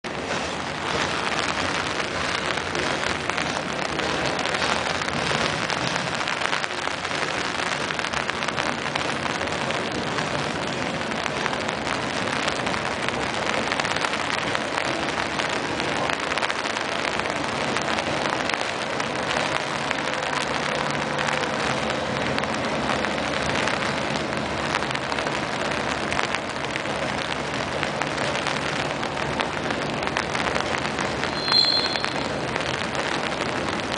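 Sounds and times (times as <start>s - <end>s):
heavy rain on umbrella: 0.0s - 33.9s
freight train rolling past: 0.1s - 11.5s, 13.2s - 33.9s.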